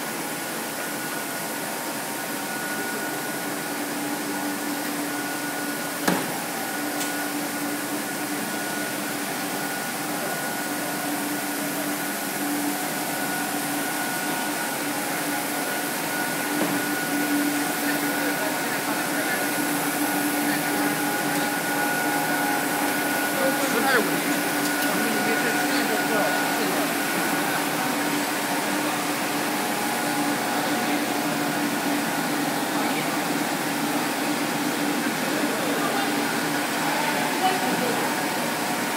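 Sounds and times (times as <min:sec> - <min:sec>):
machinery hum: 0:00.0 - 0:38.9
steady machine whine: 0:00.0 - 0:38.9.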